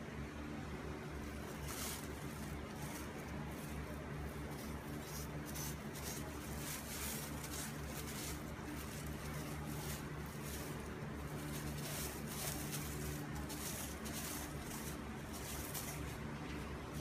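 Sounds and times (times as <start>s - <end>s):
steady low hum: 0.0s - 17.0s
plastic bag rustling and crinkling: 1.1s - 17.0s.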